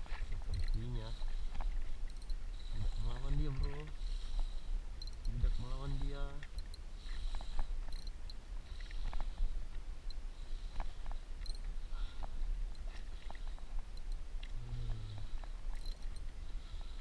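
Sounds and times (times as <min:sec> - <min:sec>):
light ticks and clicks: 0:00.0 - 0:17.0.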